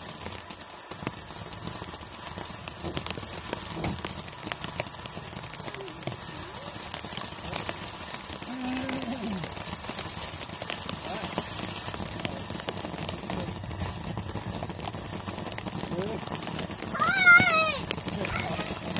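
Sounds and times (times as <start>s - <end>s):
fireworks crackling pops: 0.0s - 18.9s.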